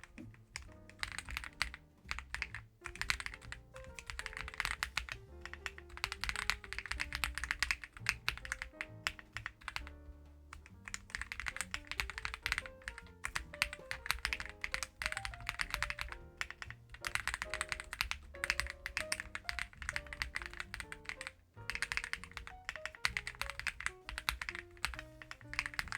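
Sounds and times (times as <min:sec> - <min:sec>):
background music: 0:00.0 - 0:25.9
mechanical keyboard typing: 0:00.0 - 0:25.9.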